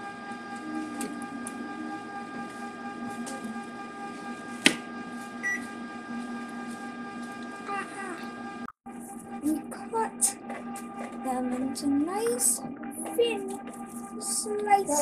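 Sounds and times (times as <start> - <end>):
electrical hum with high tones: 0.0 - 15.0.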